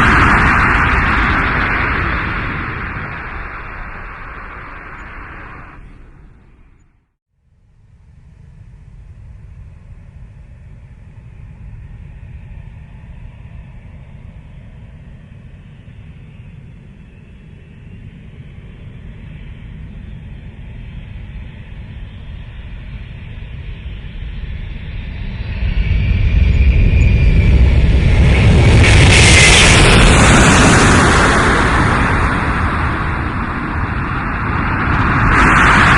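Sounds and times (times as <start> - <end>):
high engine whine: 0.0 - 7.1, 8.2 - 35.9
jet engine rumble: 0.0 - 7.2, 7.8 - 35.9.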